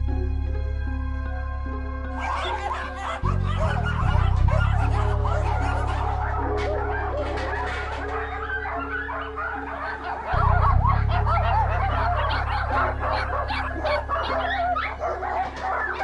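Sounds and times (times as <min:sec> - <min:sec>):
background music with deep bass: 0:00.0 - 0:16.0
dogs barking: 0:02.1 - 0:16.0.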